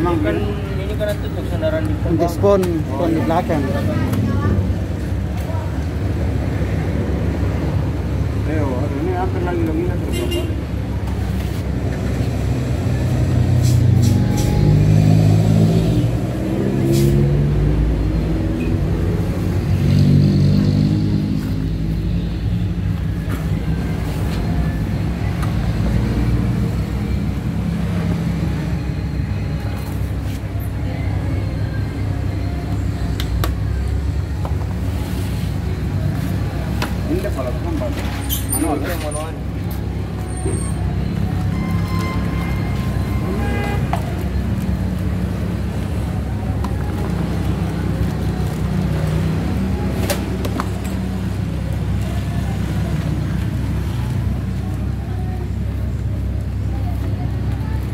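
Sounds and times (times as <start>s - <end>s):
low engine rumble: 0.0s - 57.9s.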